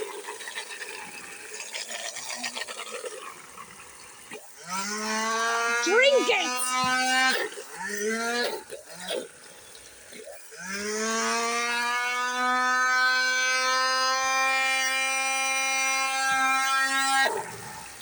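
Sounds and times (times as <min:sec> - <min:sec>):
handheld vacuum motor whining: 0:00.0 - 0:18.0.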